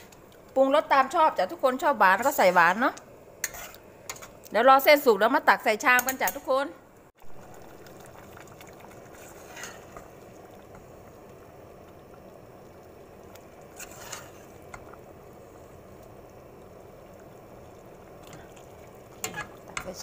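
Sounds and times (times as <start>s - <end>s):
soup boiling in a pot: 0.0s - 20.0s.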